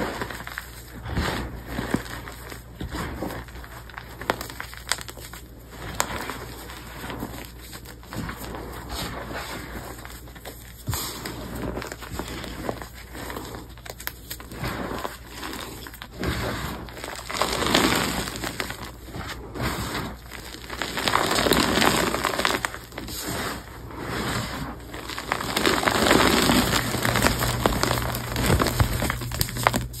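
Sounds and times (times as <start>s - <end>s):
hands crunching chalk blocks: 0.0s - 30.0s
powder sifting and falling: 0.0s - 30.0s.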